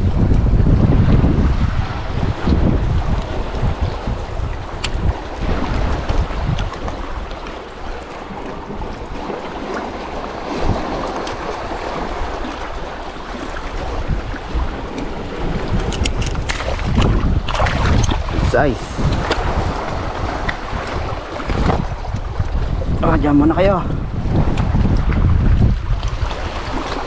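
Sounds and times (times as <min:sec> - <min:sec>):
wind buffeting microphone: 0:00.0 - 0:27.0
small sea waves washing: 0:00.8 - 0:27.0.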